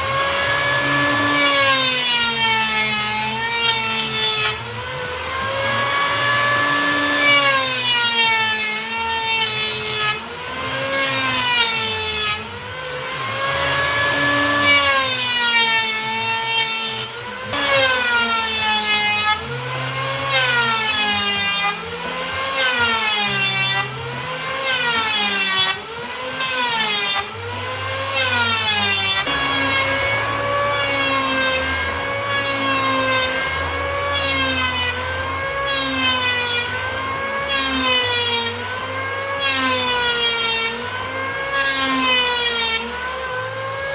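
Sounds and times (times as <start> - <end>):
power tool cutting wood: 0.0 - 43.9.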